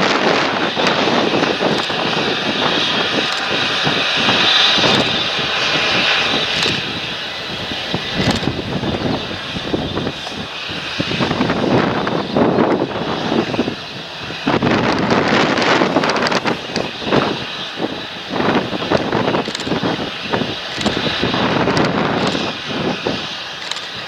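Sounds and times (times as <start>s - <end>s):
steady high whine: 0.0s - 24.0s
tractor engine working: 0.0s - 24.0s.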